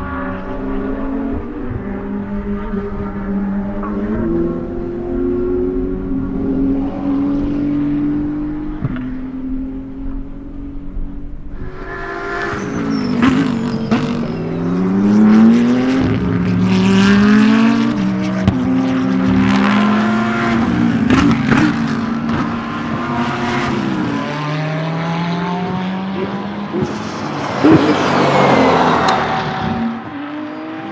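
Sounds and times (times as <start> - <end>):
race car engine at full throttle: 0.0 - 30.9.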